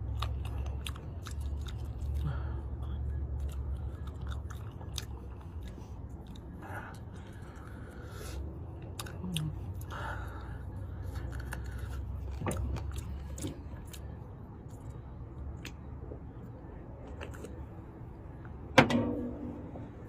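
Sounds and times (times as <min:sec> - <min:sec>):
chewing: 0:00.0 - 0:18.6
low rumble: 0:00.0 - 0:20.0.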